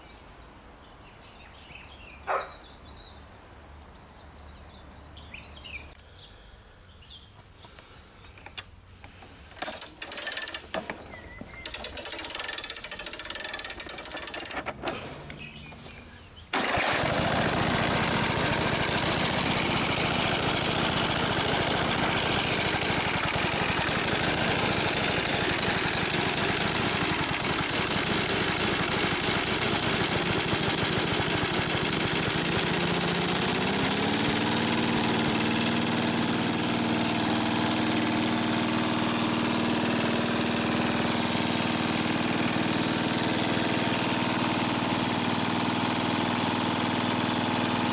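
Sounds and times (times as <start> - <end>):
mower engine running: 9.1 - 47.9.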